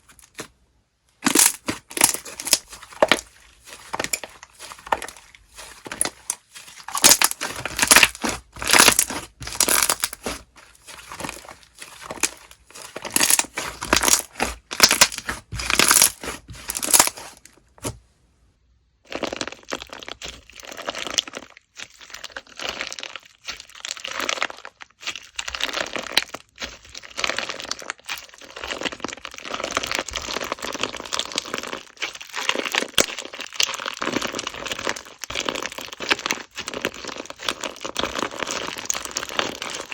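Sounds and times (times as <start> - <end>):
slime crackling and popping: 1.2 - 17.9, 19.1 - 39.9.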